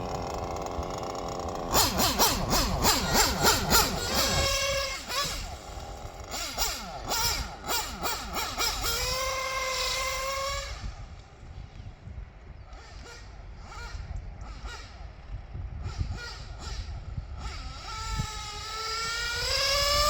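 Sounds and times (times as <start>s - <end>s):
rc car nitro engine revving: 0.0s - 11.2s, 12.6s - 20.0s.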